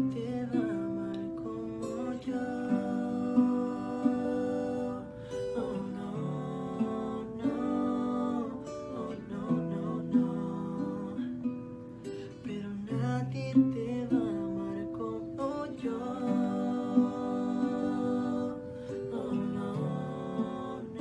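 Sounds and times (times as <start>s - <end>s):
men singing: 0.0s - 11.5s, 12.4s - 21.0s
acoustic guitar strummed: 0.0s - 21.0s.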